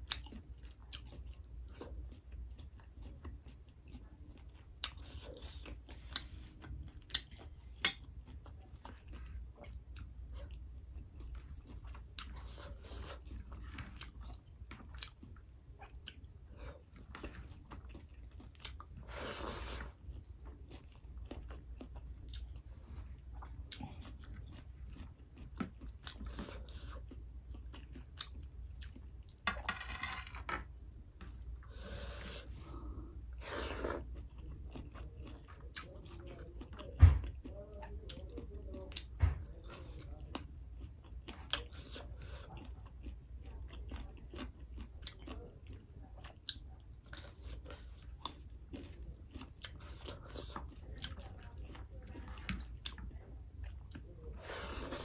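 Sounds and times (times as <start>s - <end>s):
close chewing and mouth clicks: 0.0s - 29.4s, 31.1s - 55.0s.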